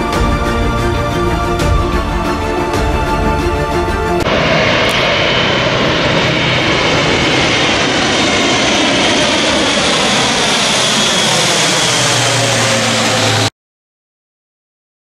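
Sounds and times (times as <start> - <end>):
propeller aircraft passing overhead: 0.0 - 13.5.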